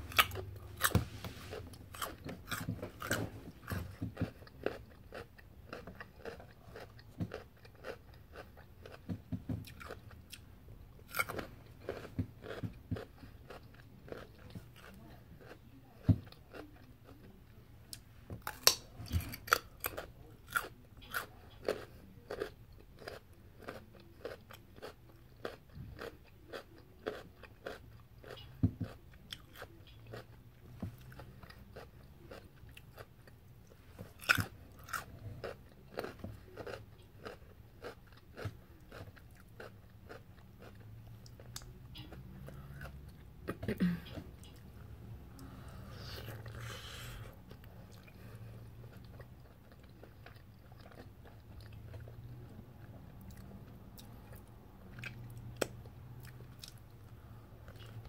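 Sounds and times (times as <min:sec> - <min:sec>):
chewing crunchy toast: 0:00.0 - 0:43.3, 0:46.1 - 0:58.0.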